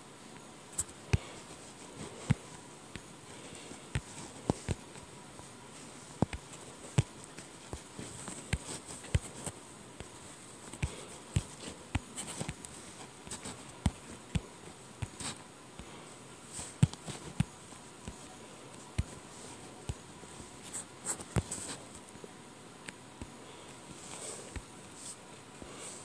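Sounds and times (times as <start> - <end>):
faint steady hiss: 0.0 - 26.0.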